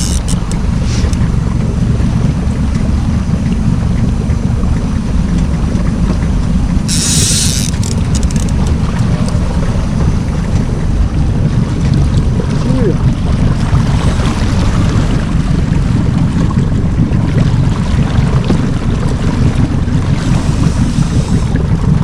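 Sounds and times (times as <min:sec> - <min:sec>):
boat engine rumble: 0:00.0 - 0:22.0
wind buffeting microphone: 0:00.0 - 0:22.0.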